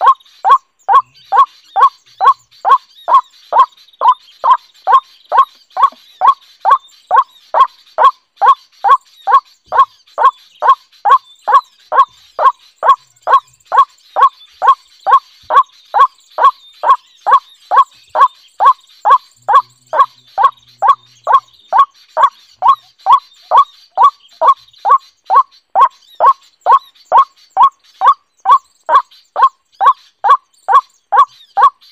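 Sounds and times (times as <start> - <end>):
waterhen calling repeated note: 0.0 - 31.8.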